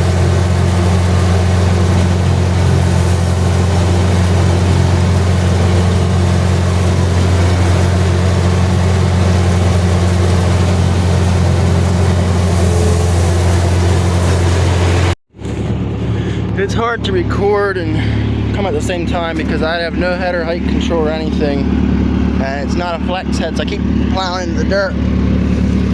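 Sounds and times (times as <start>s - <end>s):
combine harvester running: 0.0s - 25.9s
quieter machine noise: 0.0s - 25.9s.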